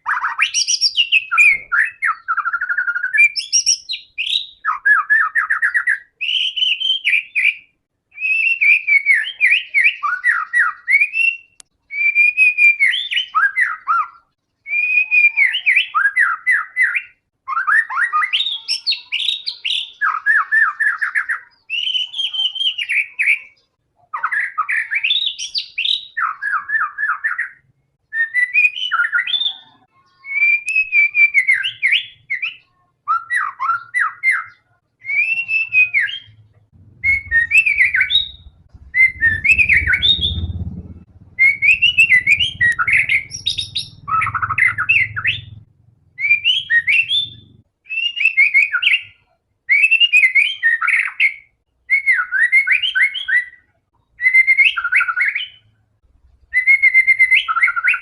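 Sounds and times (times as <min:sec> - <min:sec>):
songbird singing whistles and rattles: 0:00.0 - 0:45.6, 0:46.2 - 0:55.7, 0:56.4 - 0:58.0.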